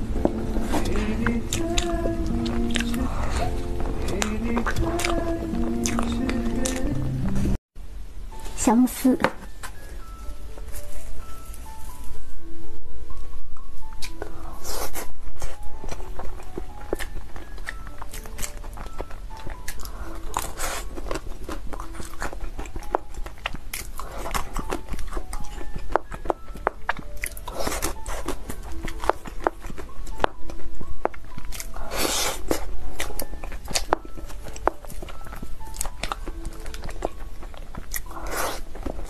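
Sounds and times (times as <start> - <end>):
chewing and crunching: 0.0 - 7.6, 13.9 - 39.0.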